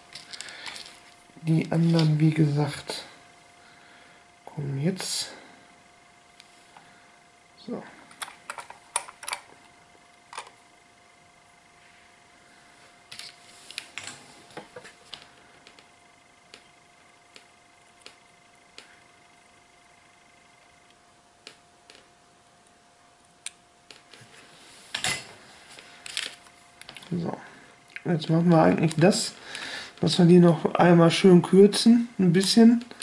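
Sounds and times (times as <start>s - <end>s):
faint high whine: 0.0s - 33.0s.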